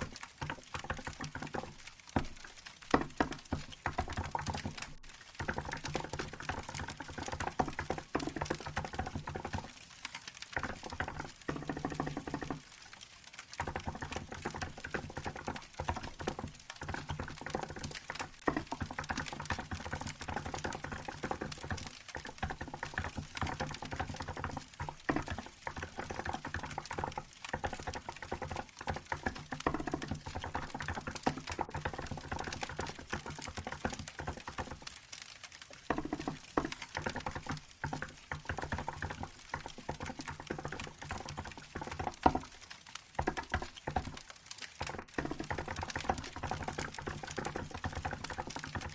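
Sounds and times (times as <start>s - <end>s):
fast keyboard typing: 0.0s - 9.8s, 10.6s - 12.7s, 13.6s - 35.0s, 35.7s - 42.6s, 43.2s - 48.9s
wood fire crackling: 0.0s - 48.9s.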